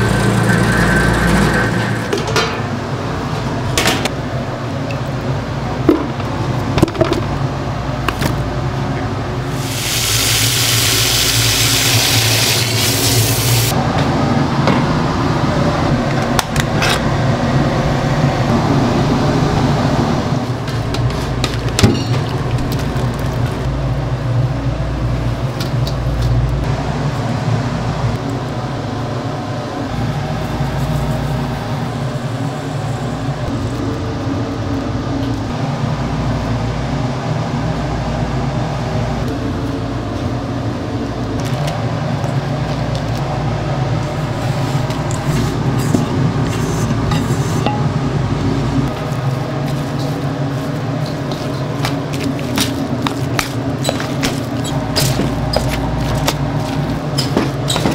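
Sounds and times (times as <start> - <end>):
kitchen fans humming: 0.0 - 57.9.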